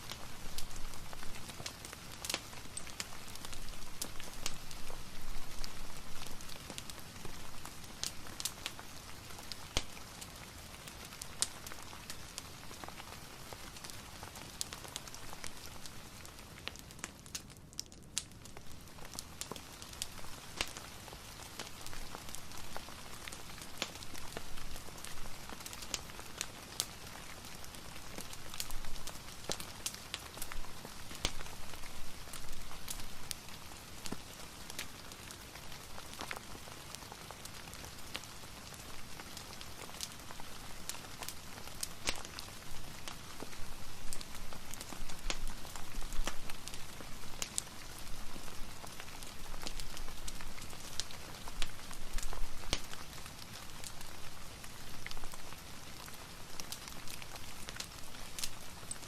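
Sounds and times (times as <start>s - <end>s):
crackling fireplace: 0.0s - 59.0s
soft rain: 0.0s - 59.0s.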